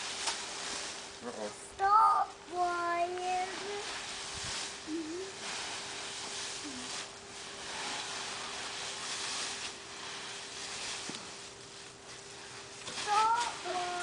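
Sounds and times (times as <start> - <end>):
dry leaves rustling: 0.0 - 14.0
rake and shovels scraping leaves: 0.0 - 14.0.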